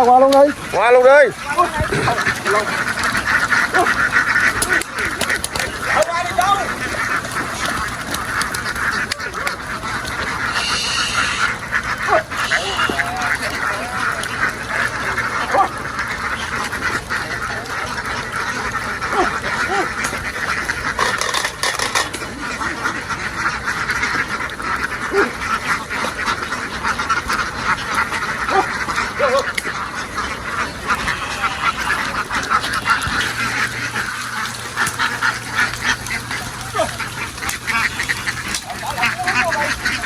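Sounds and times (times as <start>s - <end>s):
ducks quacking: 0.0s - 40.0s.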